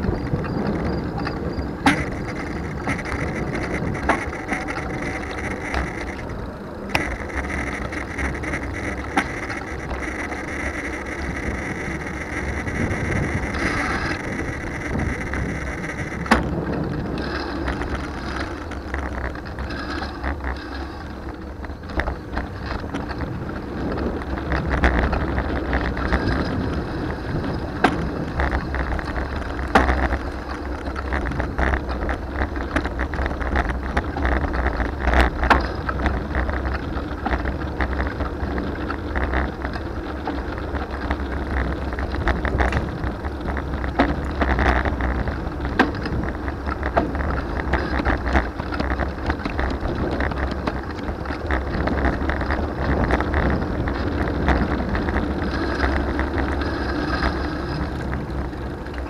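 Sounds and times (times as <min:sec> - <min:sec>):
bicycle drivetrain ticking: 0:00.0 - 0:59.0
sharp clicks and knocks: 0:00.0 - 0:59.0
tyre and wind noise: 0:00.0 - 0:59.0.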